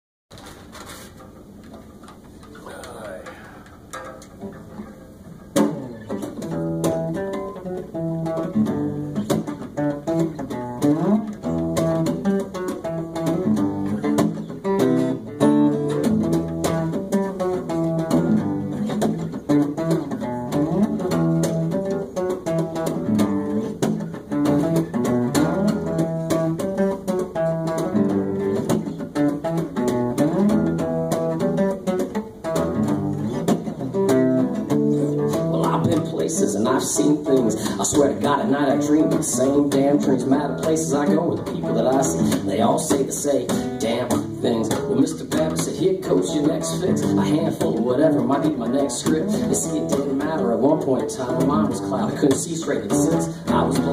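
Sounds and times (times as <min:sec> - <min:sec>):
picked guitar notes: 0:01.3 - 0:53.9.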